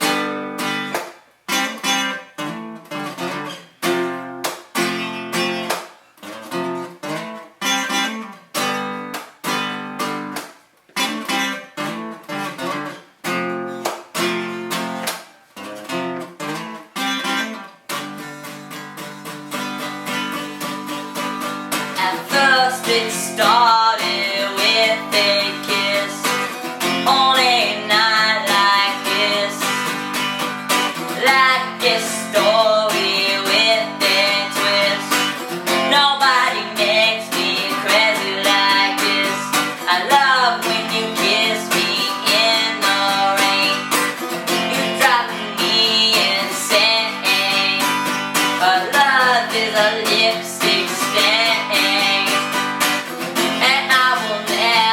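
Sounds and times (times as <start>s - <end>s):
strummed acoustic guitar: 0.0s - 54.9s.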